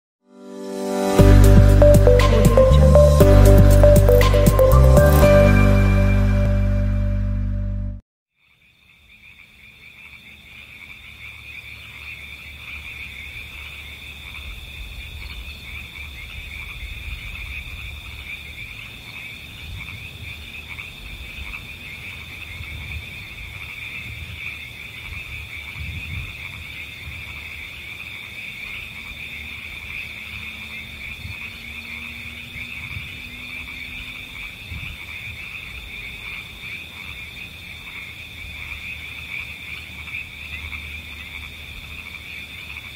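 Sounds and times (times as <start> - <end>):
frog chorus: 8.4 - 42.9.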